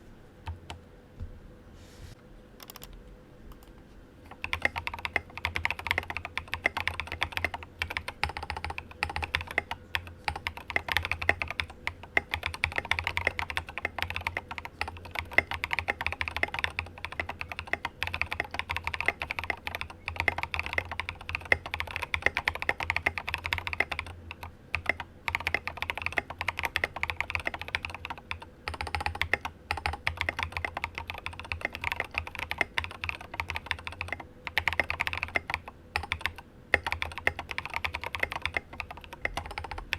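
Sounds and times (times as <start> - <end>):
fast typing on mechanical keyboard: 2.6 - 3.0, 4.3 - 39.9.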